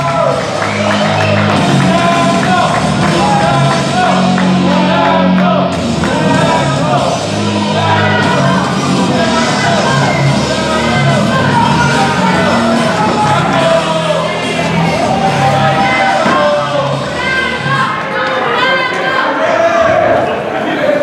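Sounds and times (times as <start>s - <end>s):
loud rock music with singing: 0.0s - 18.5s
people shouting: 0.0s - 20.4s.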